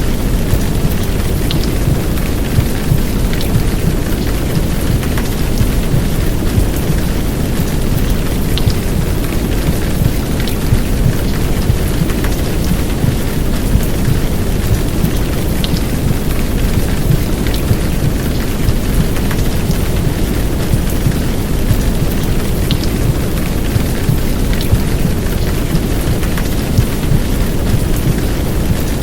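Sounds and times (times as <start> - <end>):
faint raindrop ticks: 0.0 - 29.0
heavy rain downpour: 0.0 - 29.0
muffled womb-sound rumble: 0.0 - 29.0.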